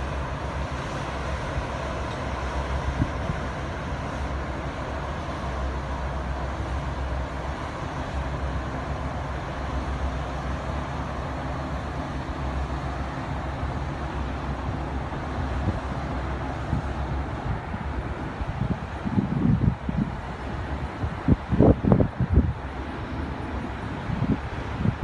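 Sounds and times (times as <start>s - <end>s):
constant hum: 0.0s - 25.0s
low engine rumble: 0.0s - 25.0s.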